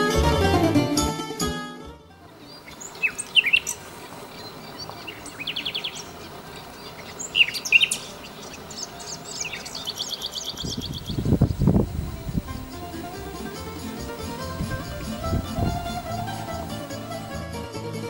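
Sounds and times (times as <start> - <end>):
nightingale singing: 2.3 - 17.4.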